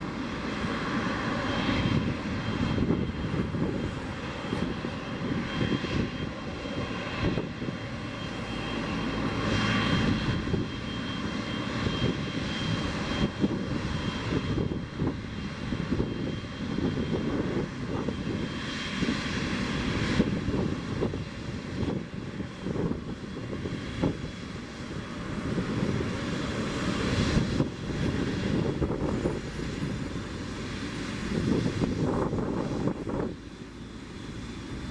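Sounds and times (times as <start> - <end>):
high jet engine whine: 0.0 - 34.9
jet engines rumbling: 0.0 - 34.9.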